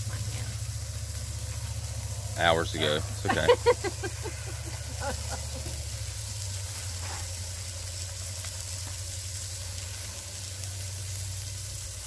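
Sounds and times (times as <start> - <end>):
food sizzling on a griddle: 0.0 - 12.0
low steady hum: 0.0 - 12.0.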